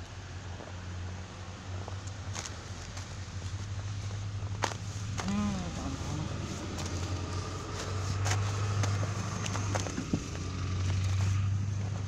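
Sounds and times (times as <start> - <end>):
vehicle engine humming: 0.0 - 12.0
footsteps crunching in snow: 0.5 - 12.0.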